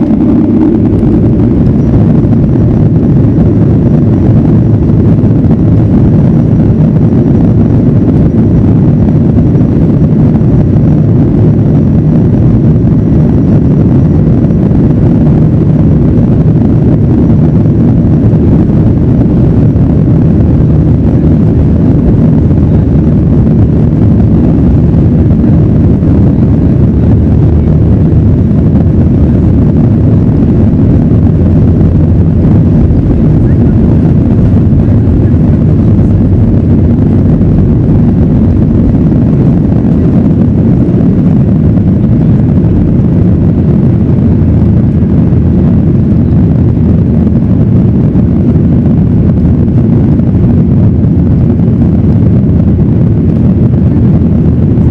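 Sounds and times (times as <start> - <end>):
jet engine rumble: 0.0 - 54.9.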